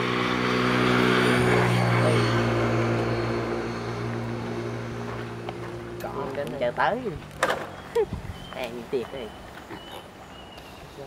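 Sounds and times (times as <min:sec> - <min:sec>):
steady engine hum: 0:00.0 - 0:11.0.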